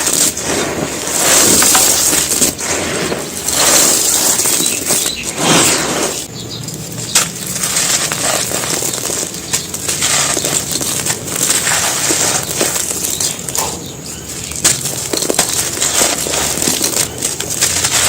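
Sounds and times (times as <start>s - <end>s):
cement pieces crunching: 0.0s - 18.0s.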